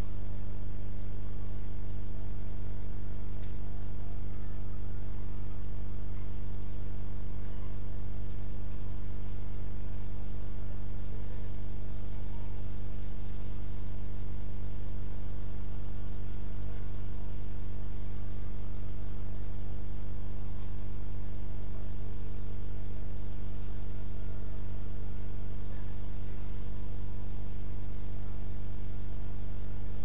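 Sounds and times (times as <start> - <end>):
constant hiss: 0.0 - 30.0
mains hum: 0.0 - 30.0.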